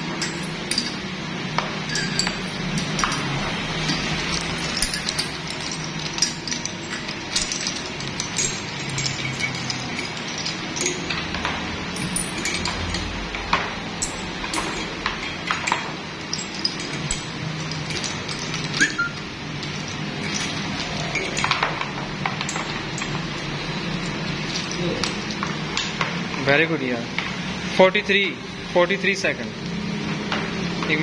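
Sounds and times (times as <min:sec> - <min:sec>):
small metal parts clinking: 0:00.0 - 0:26.7.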